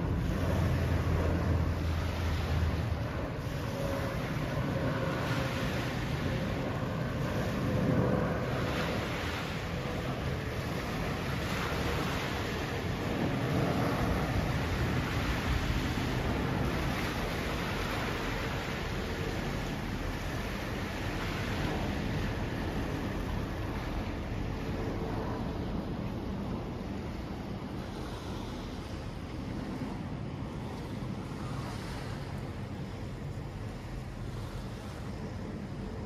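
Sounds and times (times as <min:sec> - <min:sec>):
deep rumble: 0:00.0 - 0:34.5
faint engine hum: 0:00.0 - 0:36.0
water washing on shore: 0:00.0 - 0:36.0
wind gusting: 0:00.0 - 0:36.0.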